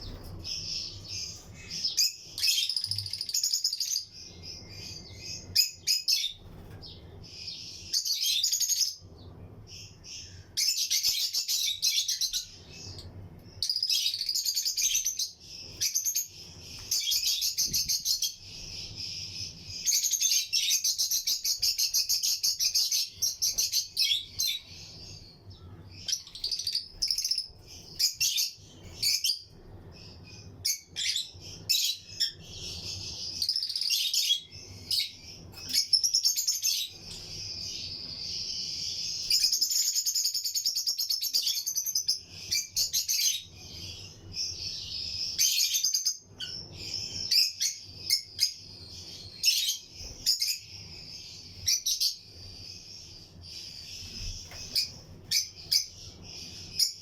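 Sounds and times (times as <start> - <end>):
lovebirds chirping and chattering: 0.0 - 57.0.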